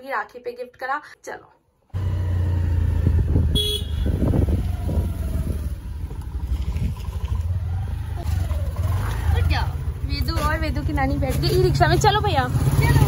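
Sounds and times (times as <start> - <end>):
road noise: 1.9 - 13.0
motorbike engine rumble: 2.0 - 13.0.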